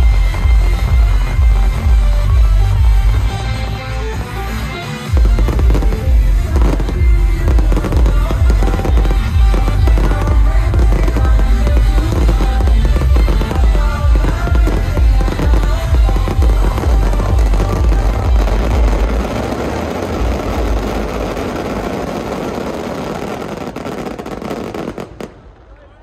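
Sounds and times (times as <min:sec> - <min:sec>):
electronic dance music: 0:00.0 - 0:25.0
fireworks bangs and crackles: 0:00.0 - 0:26.0.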